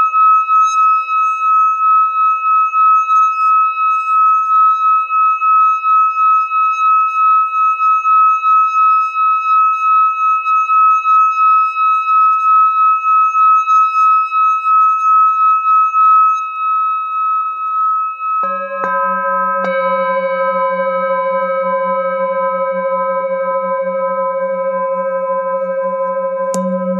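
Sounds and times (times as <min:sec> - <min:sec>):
singing bowl ringing tone: 0:00.0 - 0:26.9.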